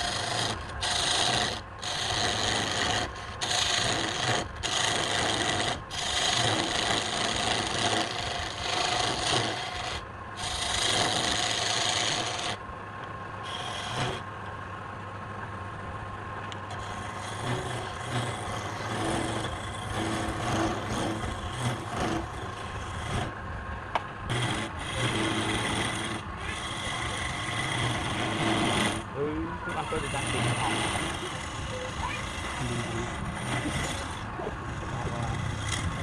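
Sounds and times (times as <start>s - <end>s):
wood lathe motor humming: 0.0s - 12.6s, 13.4s - 14.3s, 16.4s - 36.0s
tool scraping spinning wood: 0.0s - 14.6s, 16.4s - 36.0s.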